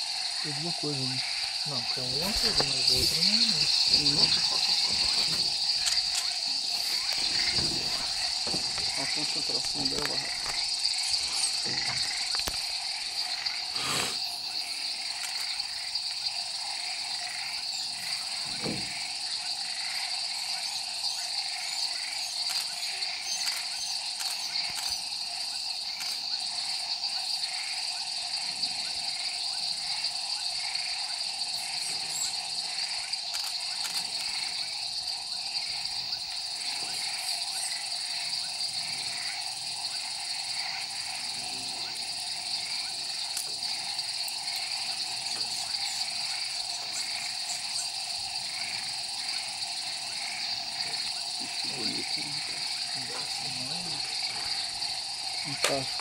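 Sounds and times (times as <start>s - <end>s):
insects trilling and buzzing: 0.0s - 56.0s.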